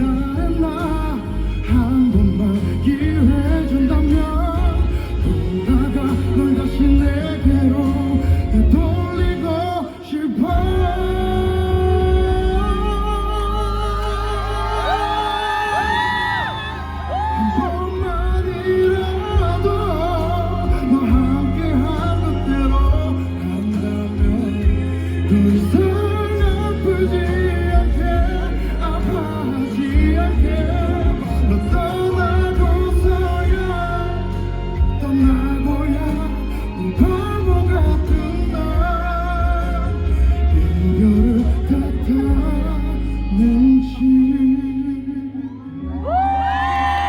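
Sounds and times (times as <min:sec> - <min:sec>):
band backing music: 0:00.0 - 0:47.0
man singing: 0:00.0 - 0:47.0.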